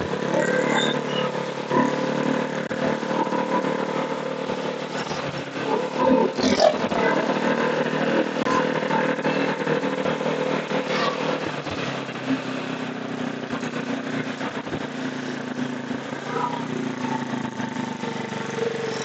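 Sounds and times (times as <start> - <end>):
motorcycle engine running: 0.0 - 19.0
road and traffic noise: 0.0 - 19.0.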